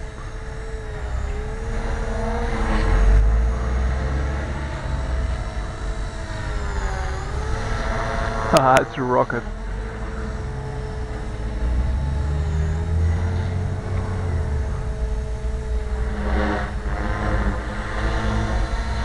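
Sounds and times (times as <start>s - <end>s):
rc helicopter motor and rotors whining: 0.0s - 19.0s.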